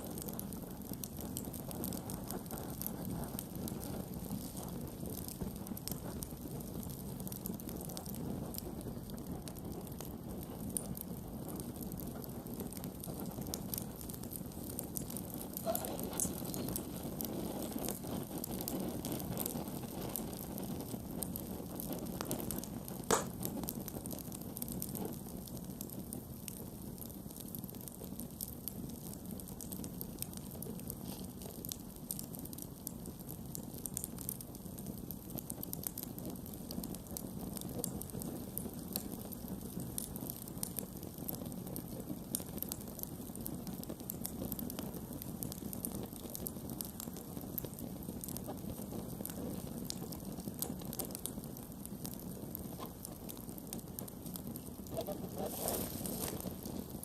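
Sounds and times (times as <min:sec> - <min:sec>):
burning wood crackling and popping: 0:00.0 - 0:57.0
campfire flames rushing: 0:00.0 - 0:57.0.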